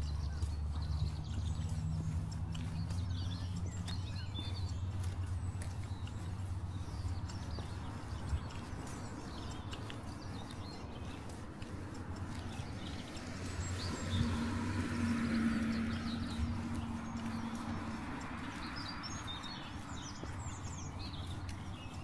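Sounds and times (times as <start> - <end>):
footsteps walking: 0.0 - 22.0
small birds chirping: 0.0 - 22.0
vehicle engine hum: 0.0 - 22.0.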